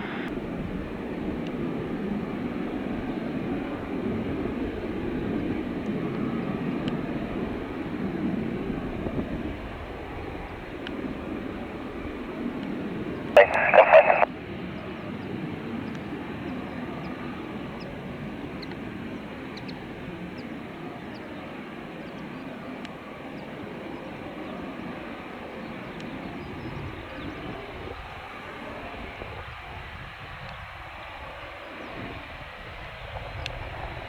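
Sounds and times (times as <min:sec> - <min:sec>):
distant jet engines rumbling: 0:00.0 - 0:34.0.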